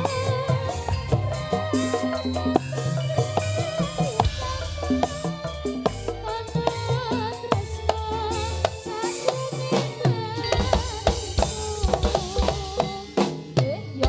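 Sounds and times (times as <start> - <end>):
wavering melody line: 0.0 - 13.1
fast drum beating: 0.0 - 14.0.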